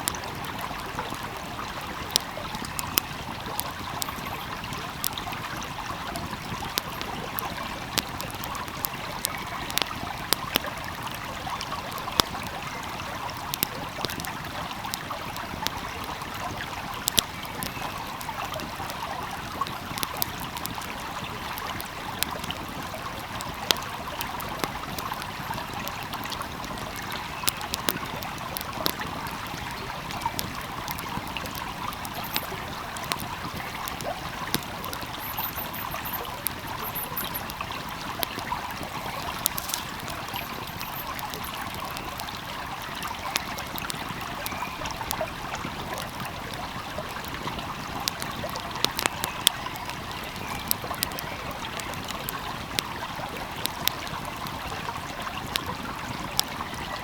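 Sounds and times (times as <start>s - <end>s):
wood fire crackling: 0.0s - 56.9s
stream flowing: 0.0s - 57.0s.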